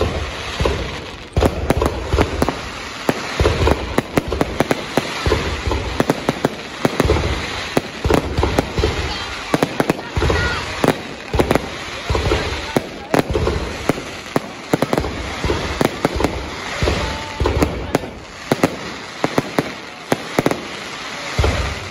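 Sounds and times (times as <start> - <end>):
fireworks booming: 0.0 - 21.9
fireworks cracking and crackling: 0.0 - 21.9.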